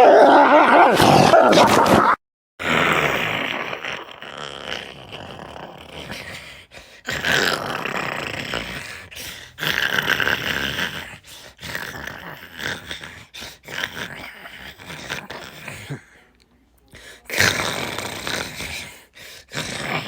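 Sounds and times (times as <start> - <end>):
dog growling: 0.0 - 16.2, 16.9 - 20.0.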